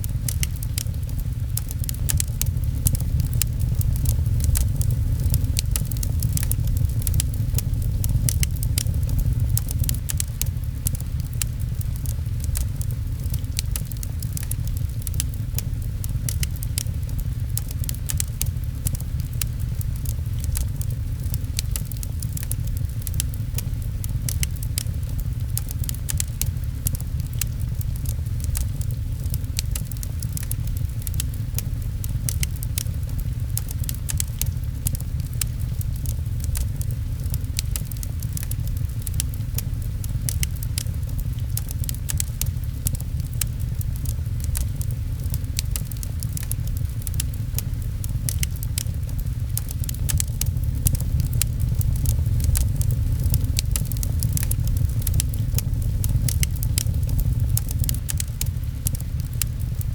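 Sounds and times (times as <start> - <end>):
rain pattering on a window: 0.0 - 59.9
wood fire crackling: 0.0 - 59.9.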